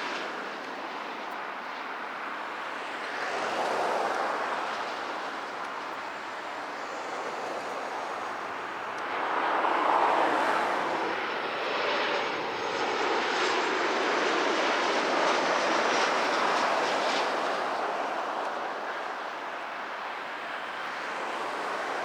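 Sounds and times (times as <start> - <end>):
jet airliner engines rushing: 0.0 - 22.0.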